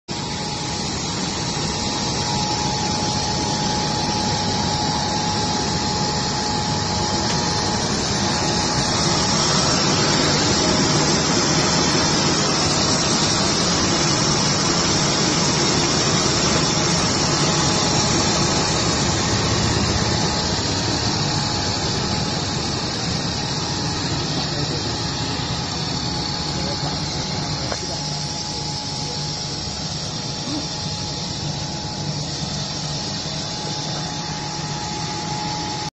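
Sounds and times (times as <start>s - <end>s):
constant high whine: 0.1s - 35.9s
machine drone of motors and conveyors: 0.1s - 35.9s.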